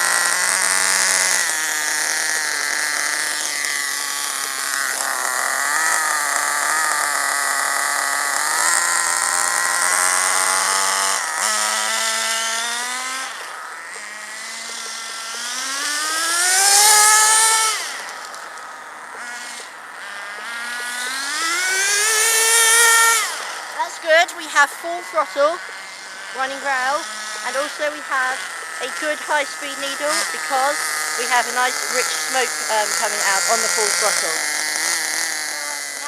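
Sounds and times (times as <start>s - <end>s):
model car nitro engine revving: 0.0s - 36.0s.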